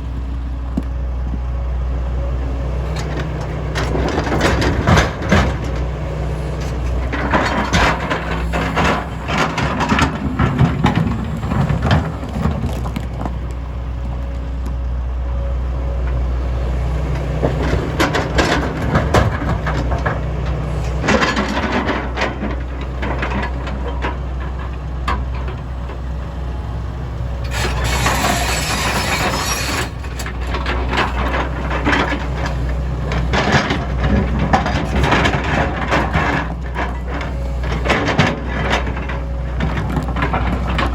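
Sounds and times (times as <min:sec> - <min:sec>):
excavator diesel engine: 0:00.0 - 0:40.9.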